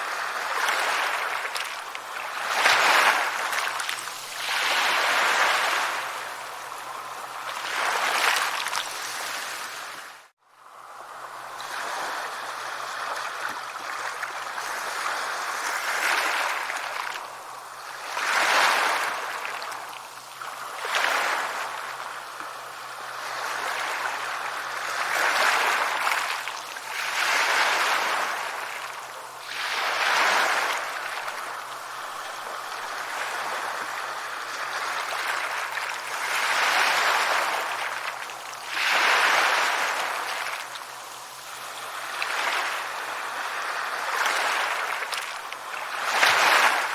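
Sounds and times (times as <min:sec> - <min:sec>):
sea waves crashing on shore: 0:00.0 - 0:46.9.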